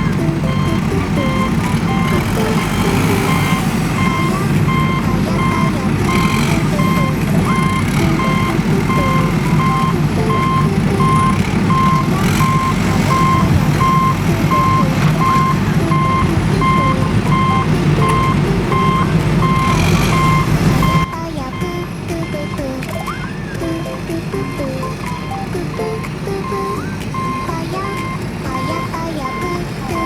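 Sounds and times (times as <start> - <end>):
reversing alarm beeping: 0.0 - 30.0.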